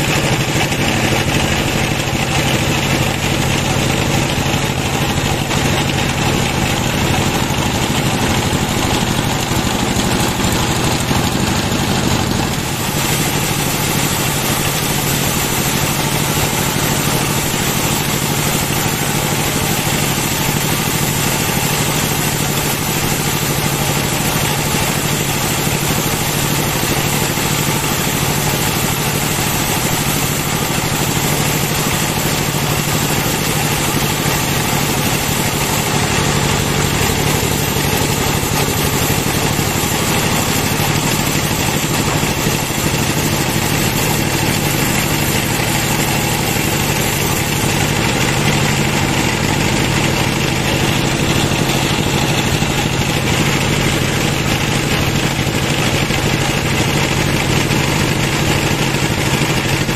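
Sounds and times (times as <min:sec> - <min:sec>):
band saw cutting log: 0:00.0 - 0:59.9
sawmill drive drone: 0:00.0 - 0:59.9.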